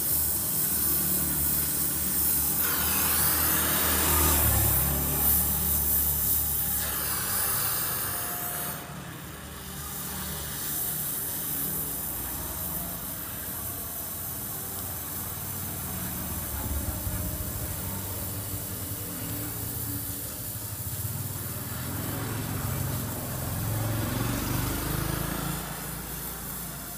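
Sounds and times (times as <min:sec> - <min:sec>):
welding torch flame hissing: 0:00.0 - 0:26.9.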